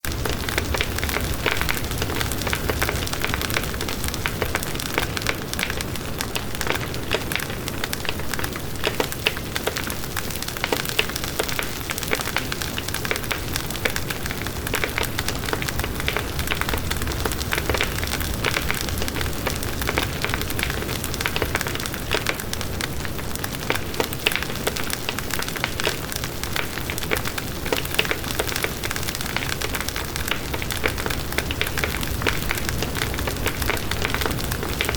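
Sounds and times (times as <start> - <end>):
fireplace fire crackling: 0.0 - 34.9.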